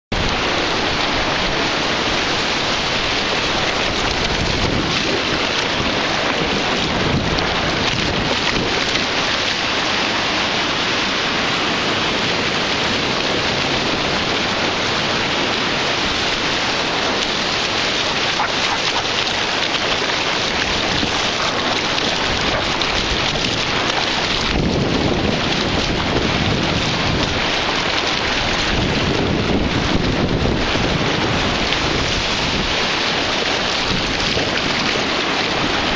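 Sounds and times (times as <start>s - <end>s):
wind buffeting microphone: 0.1s - 35.9s
dog paws splashing in water: 0.2s - 35.9s
shallow surf washing on sand: 0.2s - 35.9s.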